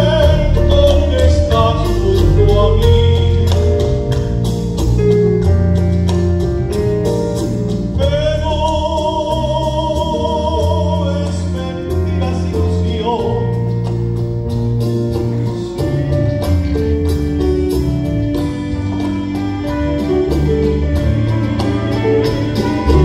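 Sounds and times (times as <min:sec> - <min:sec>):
bass line: 0:00.0 - 0:23.0
light percussion: 0:00.0 - 0:23.0
orchestra playing: 0:00.0 - 0:23.0.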